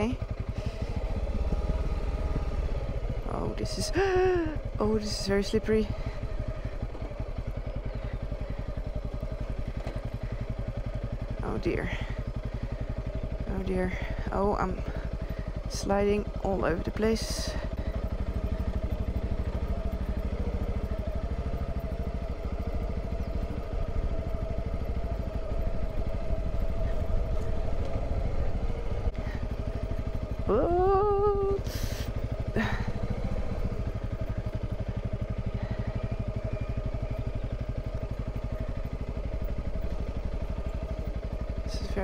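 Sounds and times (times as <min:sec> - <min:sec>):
motorcycle engine at low revs: 0:00.0 - 0:42.0.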